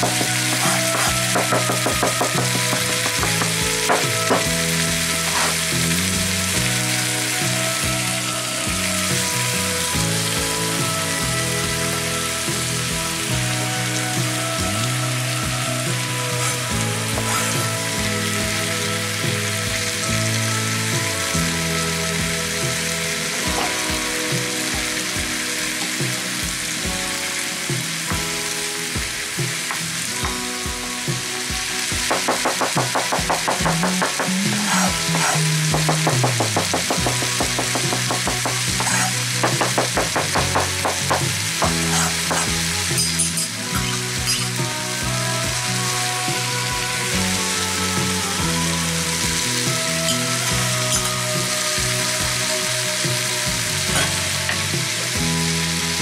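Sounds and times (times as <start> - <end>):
background music: 0.0 - 56.0
vegetables sizzling in a pan: 0.0 - 56.0.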